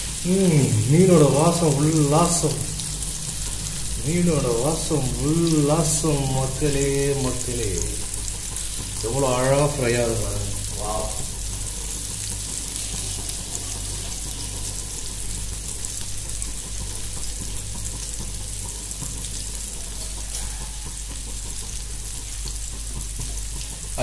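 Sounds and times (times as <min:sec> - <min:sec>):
fish sizzling in oil: 0:00.0 - 0:24.0.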